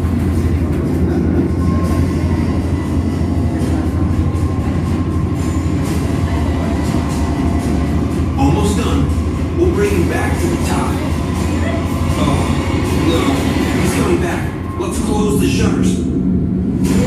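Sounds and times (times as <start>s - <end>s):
faint steady hums: 0.0s - 17.0s
soundtrack low rumble: 0.0s - 17.0s.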